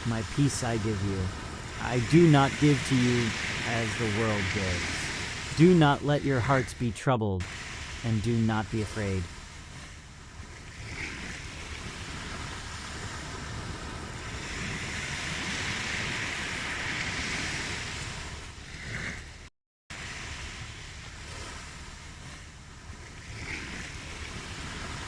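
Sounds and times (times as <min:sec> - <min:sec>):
ocean waves washing on shore: 0:00.0 - 0:25.0.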